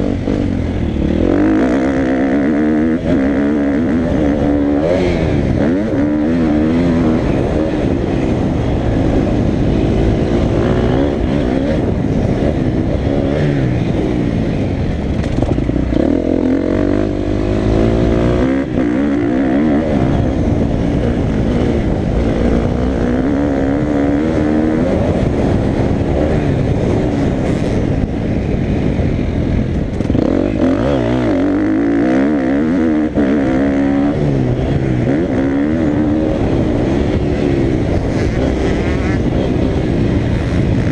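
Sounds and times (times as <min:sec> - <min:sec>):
motocross bike engine revving: 0:00.0 - 0:28.2, 0:29.8 - 0:40.9.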